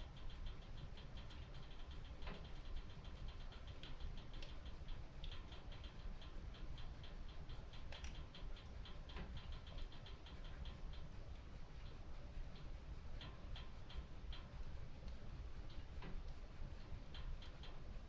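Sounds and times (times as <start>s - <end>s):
low steady rumble: 0.0s - 18.0s
wood fire crackling: 0.1s - 18.0s.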